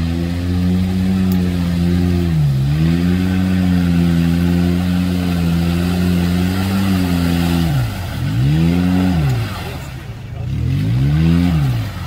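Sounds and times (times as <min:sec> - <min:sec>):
engine running hard at high revs: 0:00.0 - 0:12.0.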